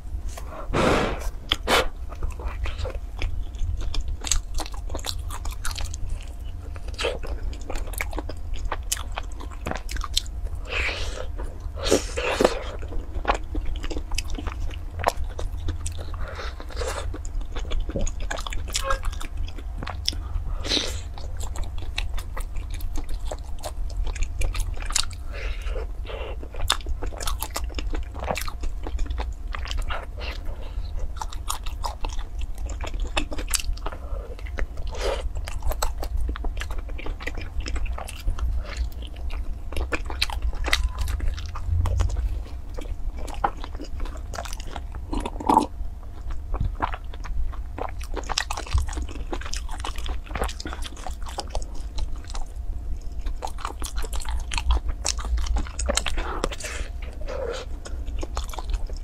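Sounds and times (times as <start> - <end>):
person chewing pastry: 0.0 - 59.0
steady low hum: 0.0 - 59.0.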